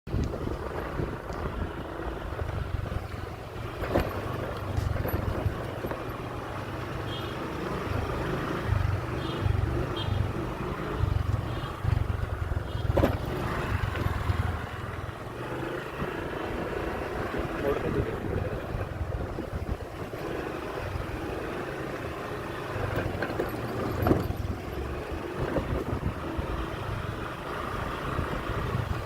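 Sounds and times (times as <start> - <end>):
wind buffeting microphone: 0.1 - 6.5, 7.9 - 21.2, 22.8 - 29.0
motorcycle running: 0.1 - 29.0.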